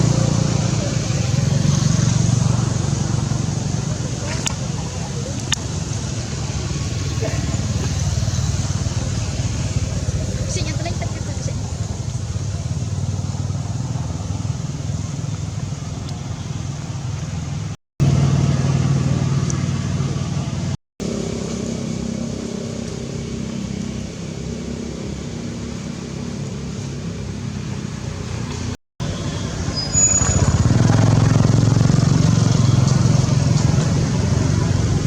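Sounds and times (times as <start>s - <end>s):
motor vehicle engines humming: 0.0s - 35.0s.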